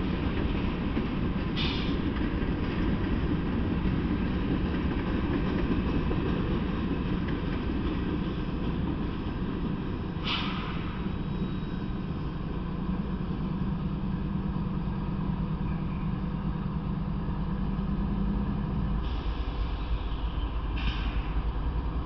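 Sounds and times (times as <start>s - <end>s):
diesel locomotive rumble and hum: 0.0s - 22.0s.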